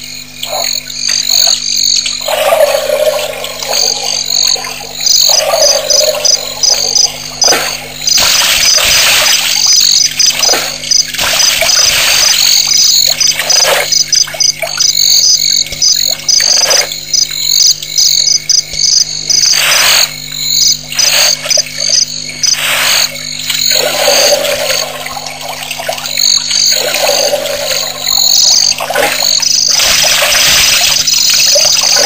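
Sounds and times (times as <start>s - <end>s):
frog chorus pulsing calls: 0.0s - 32.0s.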